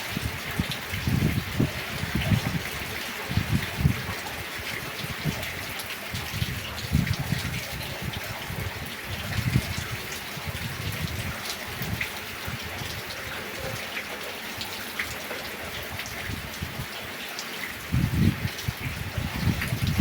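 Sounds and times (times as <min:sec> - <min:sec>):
heavy rain falling: 0:00.0 - 0:20.0
raindrops ticking: 0:00.2 - 0:20.0.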